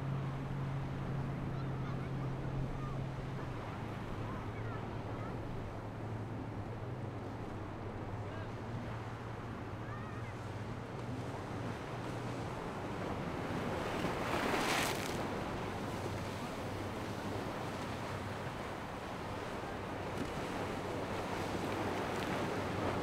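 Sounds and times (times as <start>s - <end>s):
choppy water rushing: 0.0s - 23.0s
outboard motors droning: 0.0s - 23.0s
wind: 0.0s - 23.0s.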